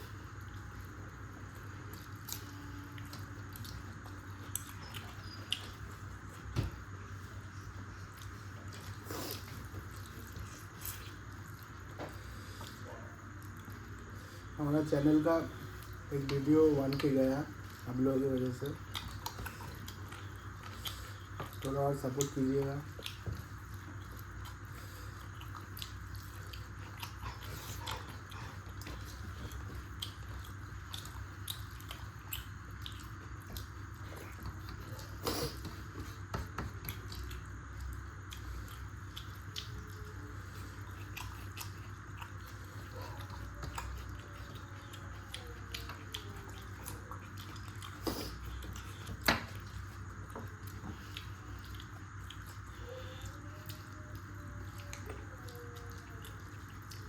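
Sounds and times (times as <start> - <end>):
low background hum: 0.0 - 57.0
person chewing food: 0.0 - 57.0.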